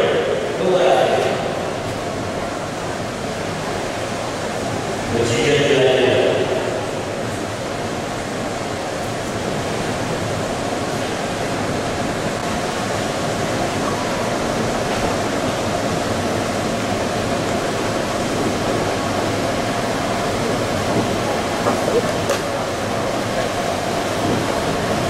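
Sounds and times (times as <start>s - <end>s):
water rushing in swimming pool: 0.0s - 25.0s.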